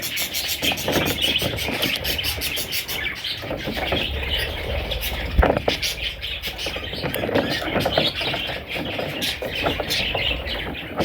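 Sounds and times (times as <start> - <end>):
bird chicks chirping: 0.0 - 11.0.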